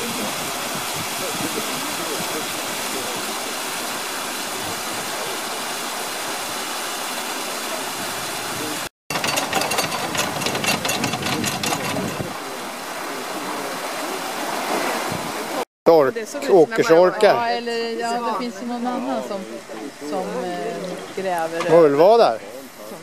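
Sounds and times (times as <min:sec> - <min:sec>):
water rushing through lock gate: 0:00.0 - 0:23.0.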